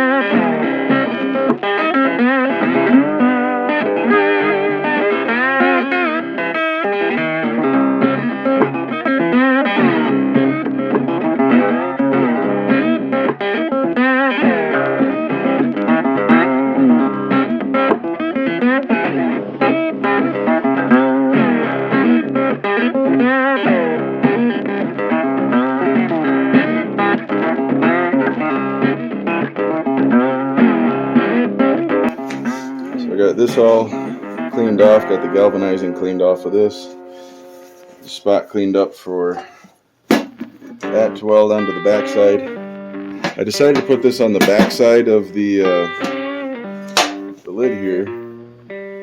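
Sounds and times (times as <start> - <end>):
electric guitar melody: 0.0 - 49.0.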